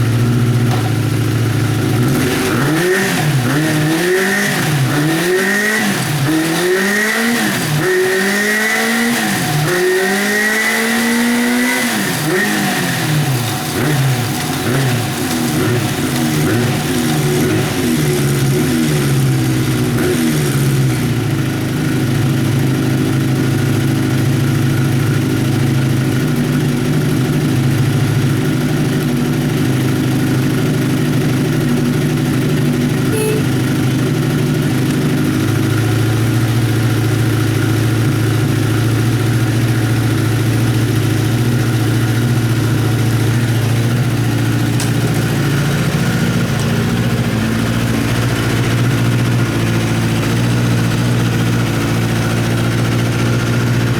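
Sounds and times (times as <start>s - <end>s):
motorcycle engine idling: 0.0s - 7.0s, 12.2s - 53.9s.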